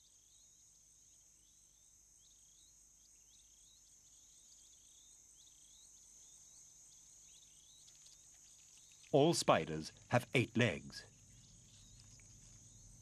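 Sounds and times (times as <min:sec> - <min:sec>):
insect drone with chirps: 0:00.0 - 0:13.0.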